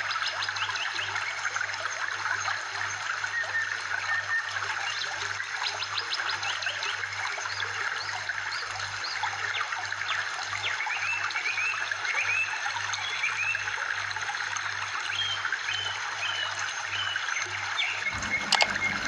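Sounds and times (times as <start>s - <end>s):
trickling water: 0.0s - 19.0s.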